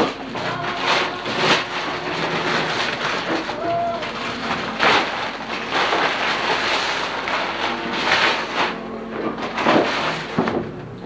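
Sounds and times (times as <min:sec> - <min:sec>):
paper and box rustling: 0:00.0 - 0:10.6
paper crackles: 0:00.0 - 0:10.6.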